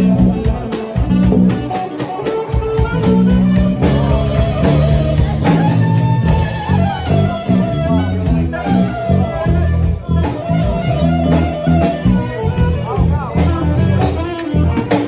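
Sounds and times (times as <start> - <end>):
band playing: 0.0 - 15.0
electric guitar: 0.0 - 15.0.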